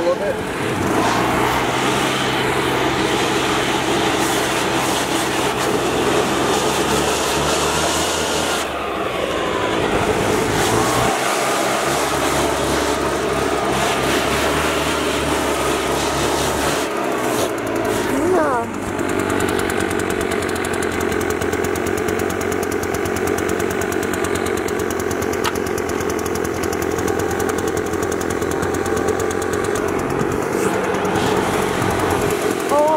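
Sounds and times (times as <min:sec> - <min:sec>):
leaf blower running: 0:00.0 - 0:32.9.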